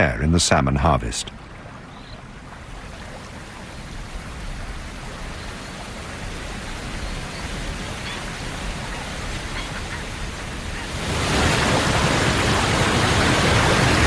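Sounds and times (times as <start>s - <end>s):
river water rushing over falls: 1.4s - 14.0s.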